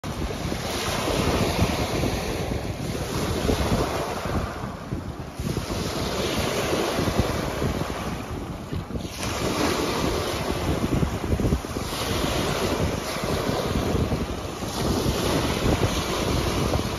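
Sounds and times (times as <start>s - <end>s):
waves crashing on rocks: 0.0s - 16.9s
wind buffeting microphone: 0.0s - 16.9s.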